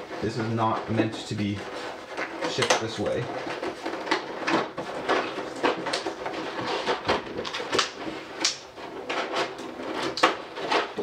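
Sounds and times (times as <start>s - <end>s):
plastic clicks knocks and scrapes: 0.0s - 11.0s.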